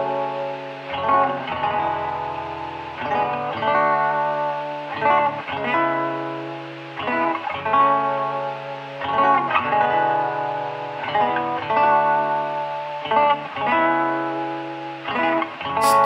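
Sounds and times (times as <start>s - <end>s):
guitar chords ringing: 0.0s - 16.0s.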